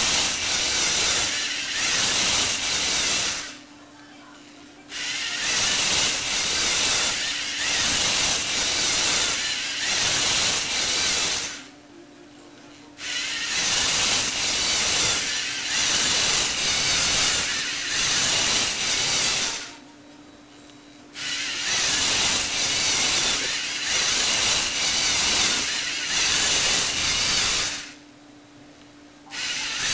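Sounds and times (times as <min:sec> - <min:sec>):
servo motors whirring and grinding: 0:00.0 - 0:03.6, 0:04.9 - 0:11.7, 0:13.0 - 0:19.8, 0:21.2 - 0:28.0, 0:29.3 - 0:29.9.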